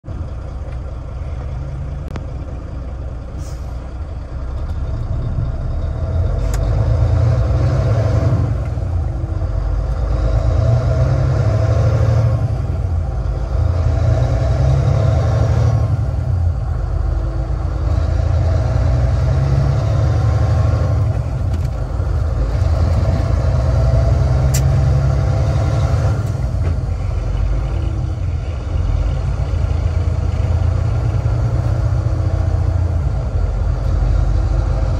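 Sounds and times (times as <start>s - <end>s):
truck diesel engine pulling hard: 0.1s - 34.9s.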